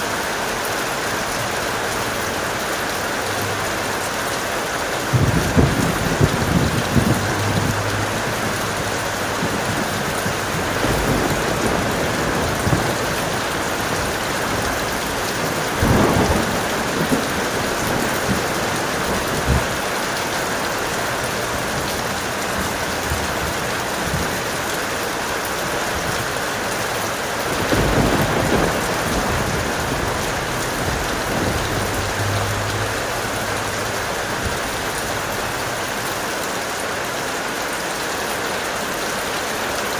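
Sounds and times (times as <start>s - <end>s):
heavy rain falling: 0.0s - 39.9s
thunder rumbling: 3.2s - 36.0s.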